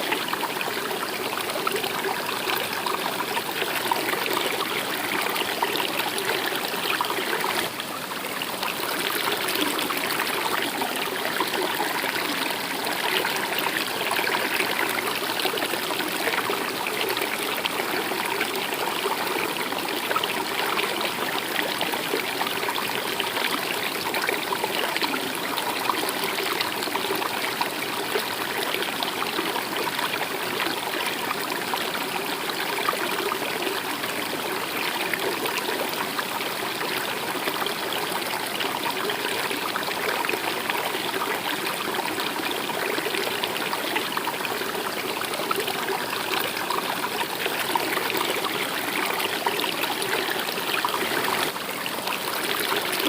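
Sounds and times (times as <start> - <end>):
stream water trickling: 0.0 - 53.0.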